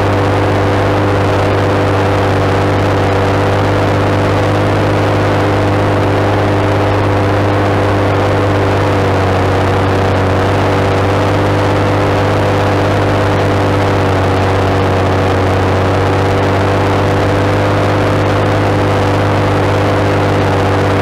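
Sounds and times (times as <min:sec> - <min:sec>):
tractor diesel engine growling: 0:00.0 - 0:21.0.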